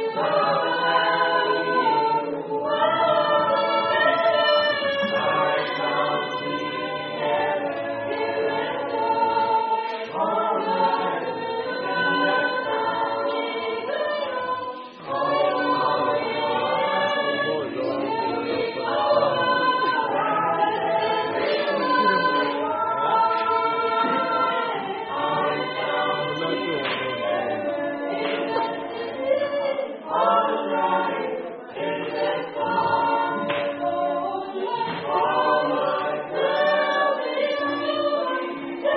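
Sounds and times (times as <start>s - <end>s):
vocal quartet singing a cappella: 0.0s - 38.9s.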